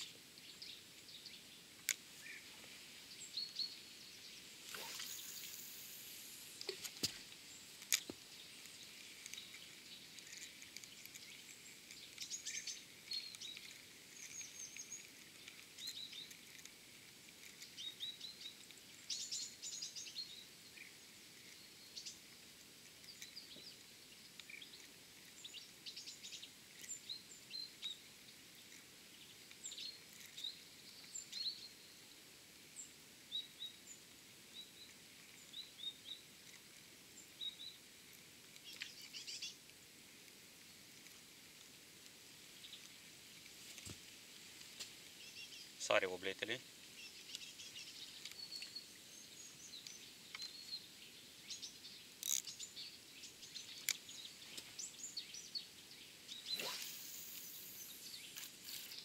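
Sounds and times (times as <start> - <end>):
outdoor background noise: 0.0 - 59.0
small birds chirping: 0.0 - 59.0.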